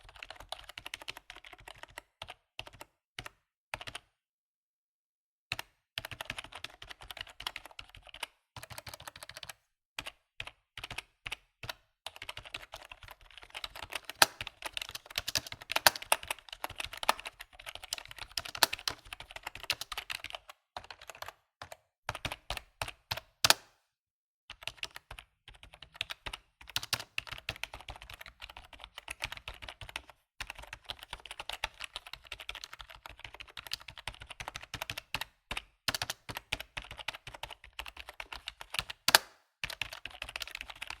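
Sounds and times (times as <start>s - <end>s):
keyboard typing: 0.0s - 4.1s, 5.5s - 23.8s, 24.5s - 41.0s.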